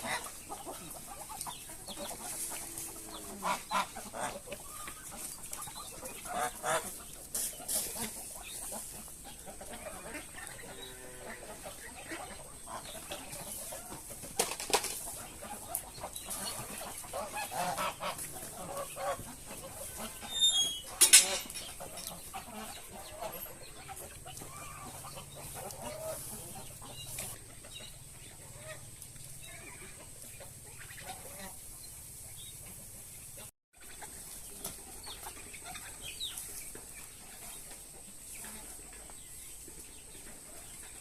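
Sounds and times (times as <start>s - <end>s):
fowl clucking and calling: 0.0s - 41.0s.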